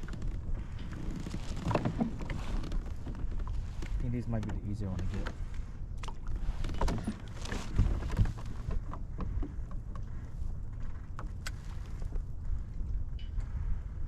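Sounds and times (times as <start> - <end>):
fishing gear knocks and clicks: 0.0 - 12.2
steady low rumble: 0.0 - 14.0.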